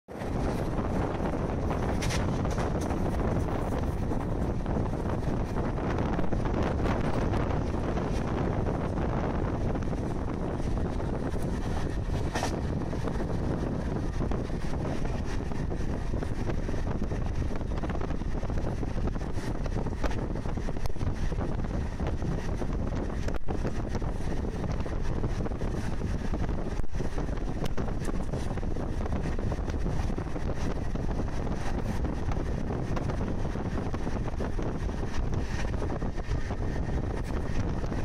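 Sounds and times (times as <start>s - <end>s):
train rumbling at speed: 0.0s - 38.0s
rushing air: 0.1s - 38.0s
wind buffeting microphone: 0.1s - 38.0s.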